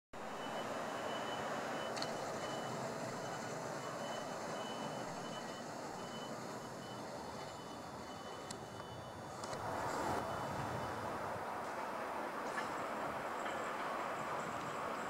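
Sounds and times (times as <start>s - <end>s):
hum of traffic: 0.2s - 15.0s.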